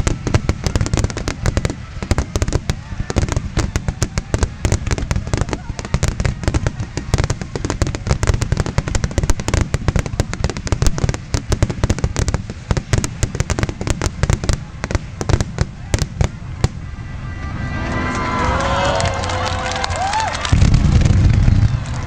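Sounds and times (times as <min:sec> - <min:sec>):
low rumble of bursting shells: 0:00.0 - 0:16.8, 0:20.5 - 0:22.0
fireworks bangs and crackles: 0:00.0 - 0:22.0.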